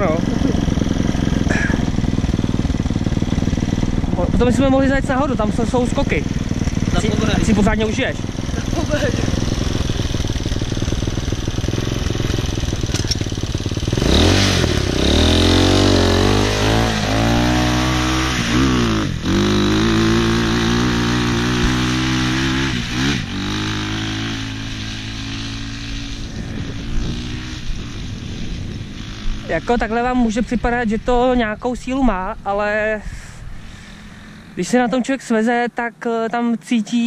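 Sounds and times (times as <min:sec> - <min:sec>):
dirt bike engine revving: 0:00.0 - 0:35.7.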